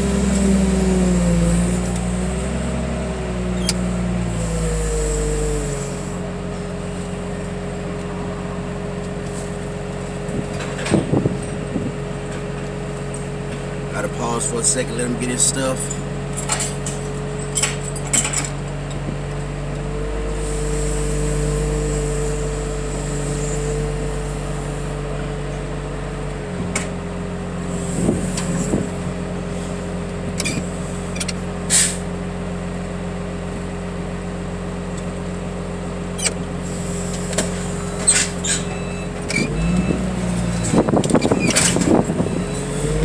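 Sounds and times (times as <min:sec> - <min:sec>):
heavy vehicle engine idling: 0:00.0 - 0:43.0.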